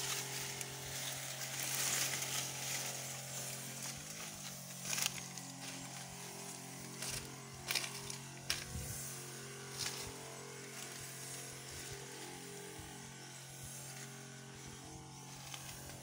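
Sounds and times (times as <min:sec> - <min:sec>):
rustling through grass: 0:00.0 - 0:16.0
sprayer pump motor humming: 0:00.0 - 0:16.0.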